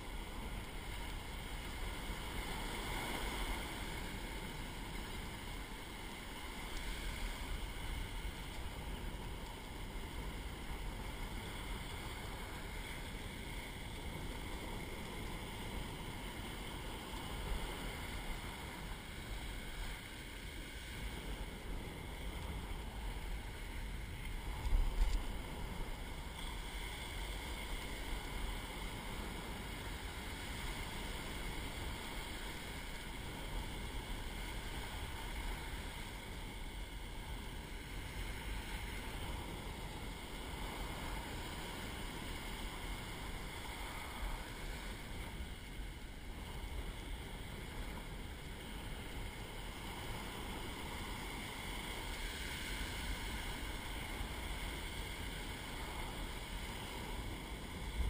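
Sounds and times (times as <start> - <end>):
ocean surf breaking: 0.0 - 58.0
wind rumbling on microphone: 0.0 - 58.0.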